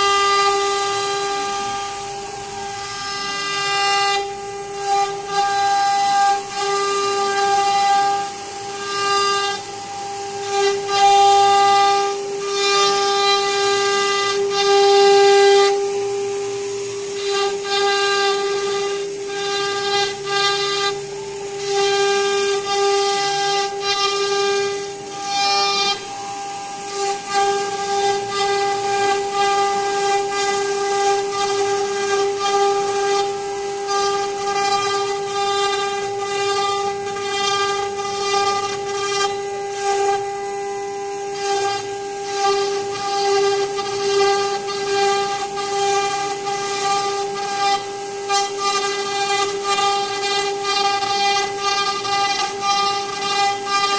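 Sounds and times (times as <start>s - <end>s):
bit cutting wood hiss: 0.0s - 53.9s
router spindle whine: 0.0s - 53.9s.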